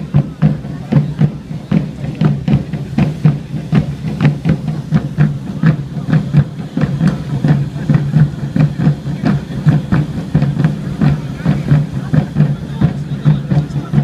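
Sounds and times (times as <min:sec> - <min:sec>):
crowd voices: 0:00.0 - 0:14.0
drums beating quick rhythm: 0:00.0 - 0:14.0.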